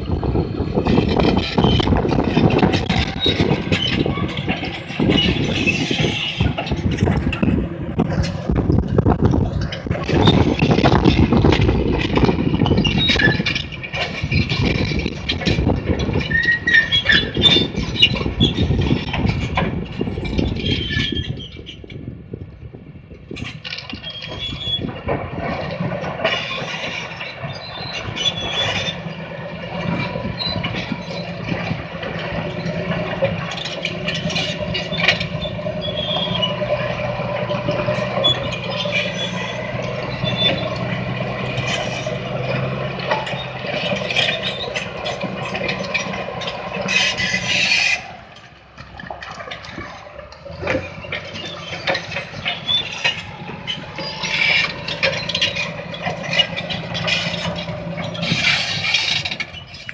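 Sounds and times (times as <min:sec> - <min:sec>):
bulldozer diesel engine running hard: 0:00.0 - 0:59.9
steel tracks clanking and squeaking: 0:00.0 - 0:59.9
rock scraping under blade: 0:00.3 - 0:21.3, 0:25.4 - 0:48.4, 0:49.1 - 0:59.9.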